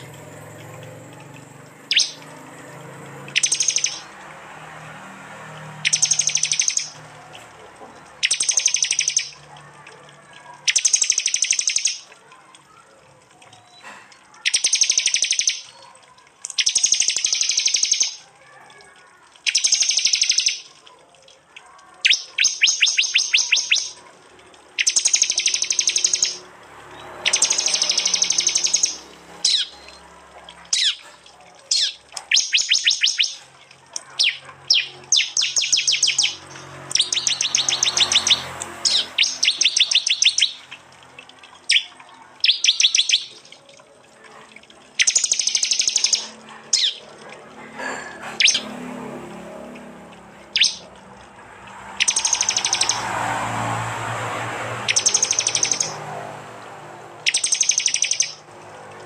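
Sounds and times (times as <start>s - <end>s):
bird chips: 0.0s - 12.8s, 13.4s - 18.3s, 19.0s - 44.0s, 44.9s - 48.8s, 50.4s - 50.9s, 51.8s - 56.6s, 57.2s - 58.5s
bird song with rapid high notes: 0.0s - 44.0s, 44.6s - 47.2s, 48.4s - 48.8s, 49.7s - 51.0s, 51.9s - 54.1s, 54.7s - 58.6s.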